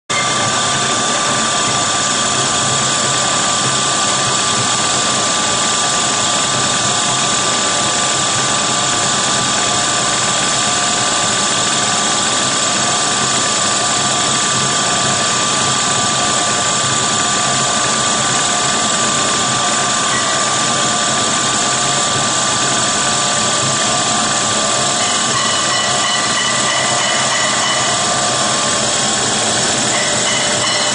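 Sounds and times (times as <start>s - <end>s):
extruder machine running: 0.1s - 30.9s
machine whine: 0.1s - 30.9s.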